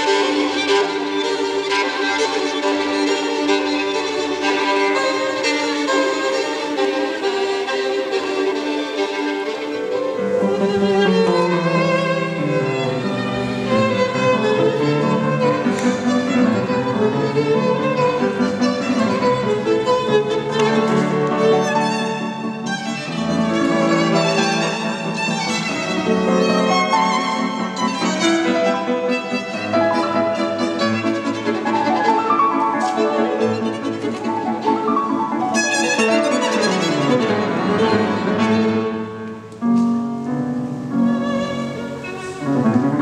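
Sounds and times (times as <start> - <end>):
bowed violin classical piece: 0.0 - 43.0.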